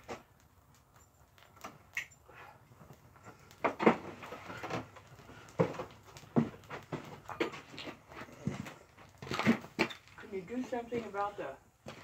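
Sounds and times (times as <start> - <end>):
crackles and pops of burning compressor: 0.0 - 12.0.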